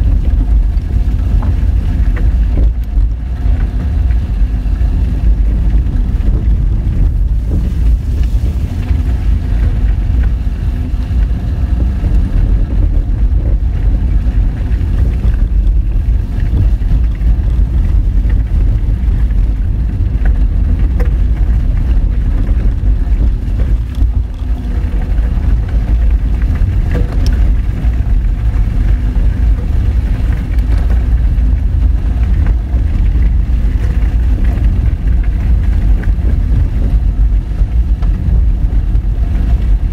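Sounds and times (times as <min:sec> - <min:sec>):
tyres and engine rumble on gravel: 0:00.0 - 0:39.9.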